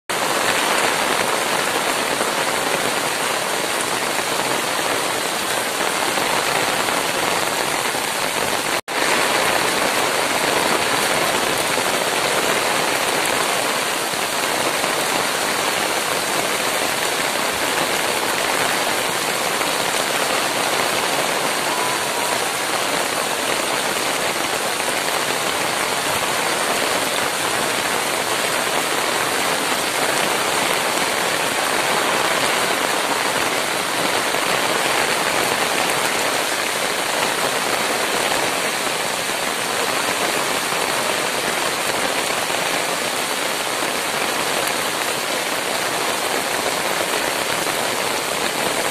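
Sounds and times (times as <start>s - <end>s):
heavy rain on water and trees: 0.0s - 48.9s.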